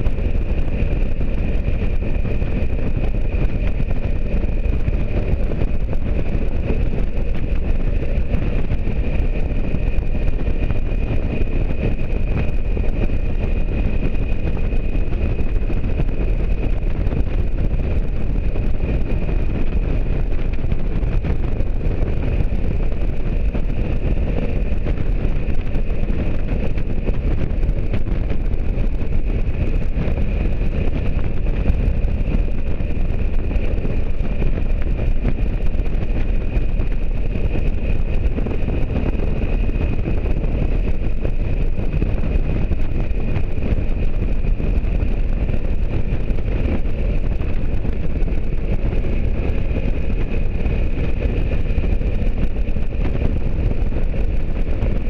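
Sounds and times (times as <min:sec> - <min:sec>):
road noise: 0:00.0 - 0:55.0
wind rushing over microphone: 0:00.0 - 0:55.0.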